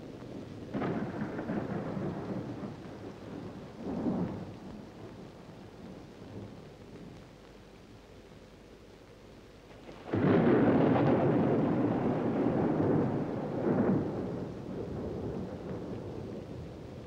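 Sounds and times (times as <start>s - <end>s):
thunder rumbling: 0.6s - 7.2s, 9.8s - 17.0s.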